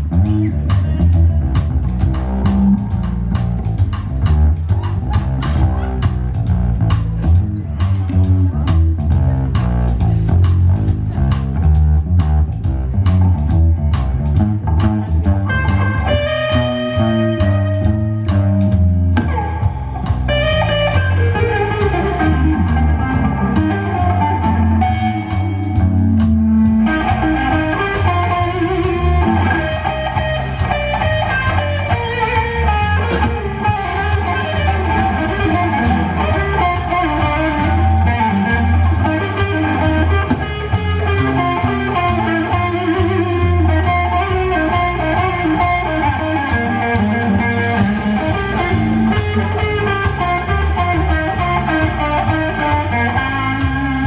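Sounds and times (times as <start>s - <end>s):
electric guitar lead lines: 0.0s - 54.0s
upright bass clicking strokes: 0.0s - 54.0s.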